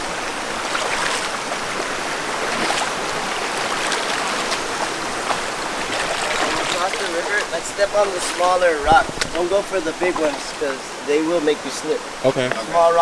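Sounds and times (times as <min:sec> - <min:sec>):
river water over rocks: 0:00.0 - 0:13.0.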